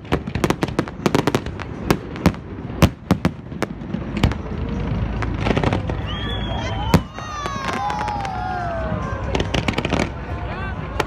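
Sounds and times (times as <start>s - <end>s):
fireworks bangs and pops: 0.0s - 8.4s, 9.2s - 10.3s.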